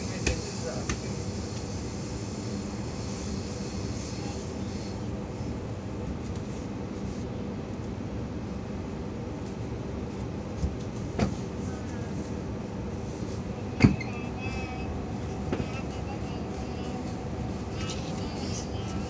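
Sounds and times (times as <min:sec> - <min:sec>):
train interior rumble and hum: 0:00.0 - 0:19.0.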